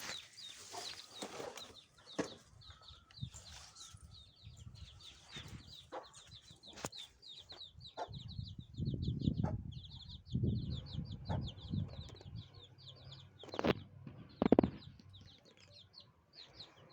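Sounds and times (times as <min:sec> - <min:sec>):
baby birds cheeping: 0:00.0 - 0:16.9.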